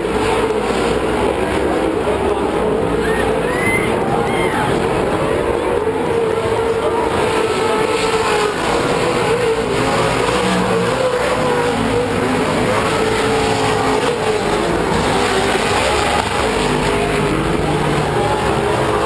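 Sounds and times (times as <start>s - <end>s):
race truck engines revving: 0.0s - 19.0s.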